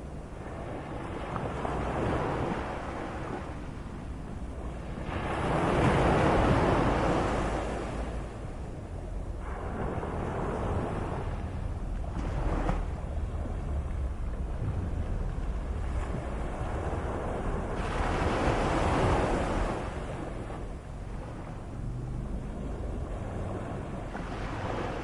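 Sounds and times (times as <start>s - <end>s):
low rumble of surf: 0.0s - 25.0s
sea waves washing in: 0.0s - 25.0s.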